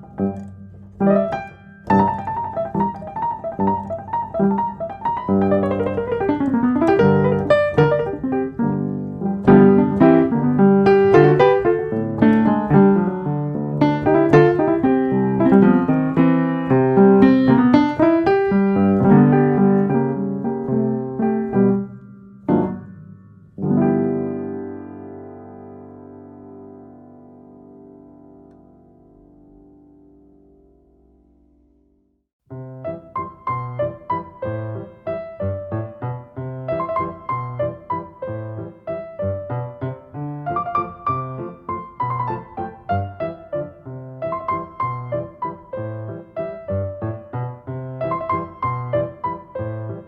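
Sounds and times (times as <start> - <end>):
solo piano piece: 0.0 - 50.0.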